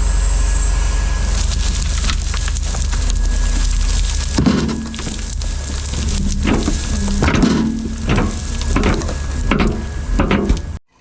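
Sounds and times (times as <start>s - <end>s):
crackling rattling of loam: 0.0s - 10.8s
diesel engine hum: 0.0s - 10.8s.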